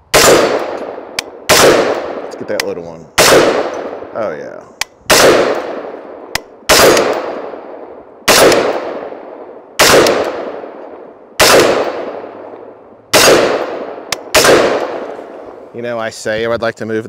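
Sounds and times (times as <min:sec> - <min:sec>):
rifle shots with echo: 0:00.1 - 0:15.7.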